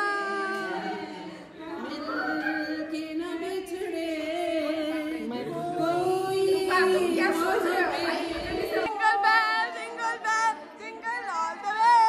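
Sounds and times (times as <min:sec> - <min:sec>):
small group singing unaccompanied: 0:00.0 - 0:12.0.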